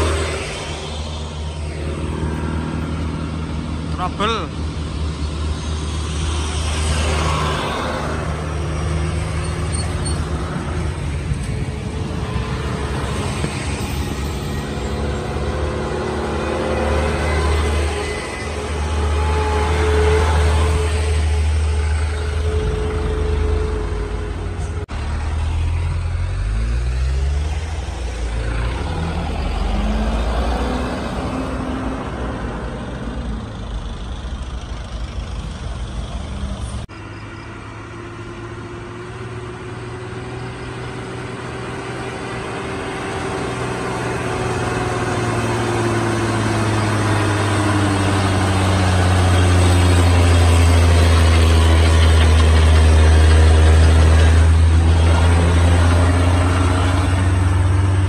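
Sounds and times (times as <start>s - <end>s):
diesel truck engines humming: 0.0s - 58.0s
truck engine revving through gears: 0.0s - 58.0s.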